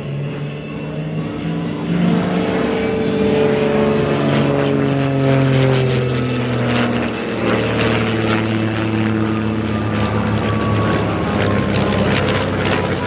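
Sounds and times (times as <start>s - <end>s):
propeller airplanes passing low: 0.0s - 13.0s.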